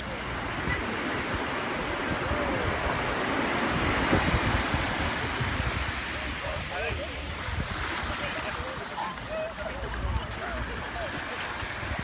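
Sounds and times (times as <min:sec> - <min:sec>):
surf washing onto shore: 0:00.0 - 0:12.0
wind buffeting microphone: 0:00.0 - 0:12.0.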